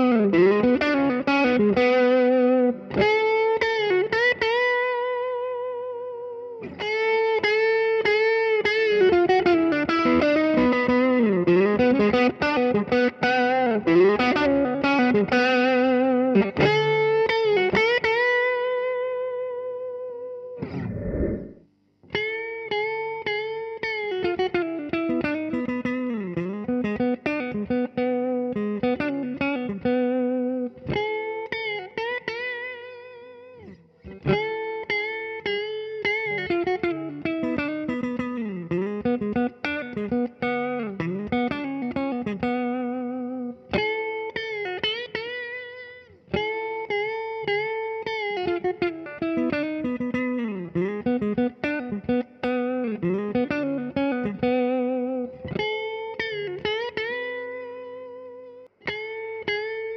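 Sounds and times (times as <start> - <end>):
clean electric guitar solo: 0.0 - 59.9.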